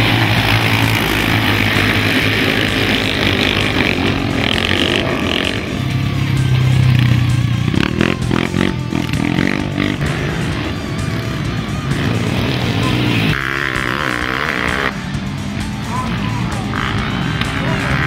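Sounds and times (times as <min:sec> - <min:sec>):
racing quad engines revving: 0:00.0 - 0:18.0.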